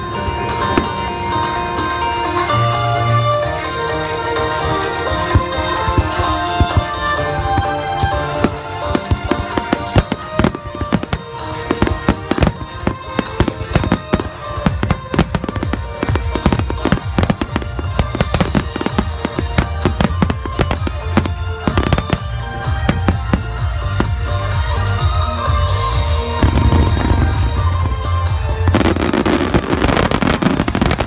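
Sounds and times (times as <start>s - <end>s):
music playing: 0.0s - 31.0s.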